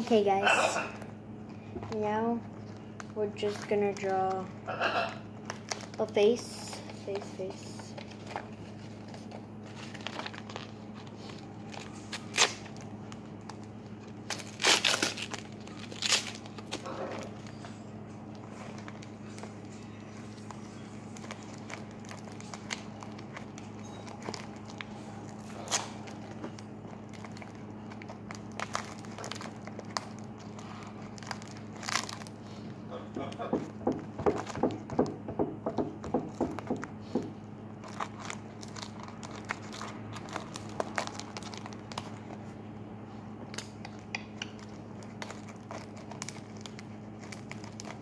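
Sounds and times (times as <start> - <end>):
steady low hum: 0.0 - 48.0
foil wrapper crinkling: 1.0 - 4.5, 5.2 - 32.9, 37.7 - 42.6, 43.5 - 48.0.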